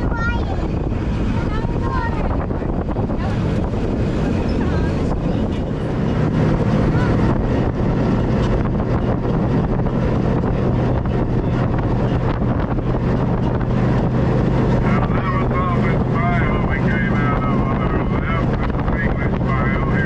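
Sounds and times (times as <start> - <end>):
vehicle engine droning: 0.0 - 20.0
wind buffeting microphone: 0.0 - 20.0.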